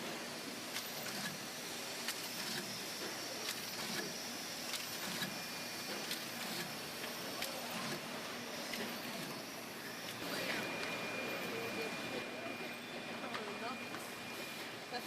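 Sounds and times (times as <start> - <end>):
machinery running steadily: 0.0 - 15.0.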